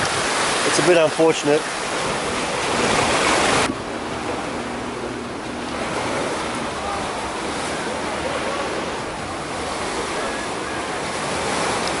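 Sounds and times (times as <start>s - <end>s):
waves washing onto beach: 0.0s - 12.0s
wind buffeting microphone: 0.0s - 12.0s.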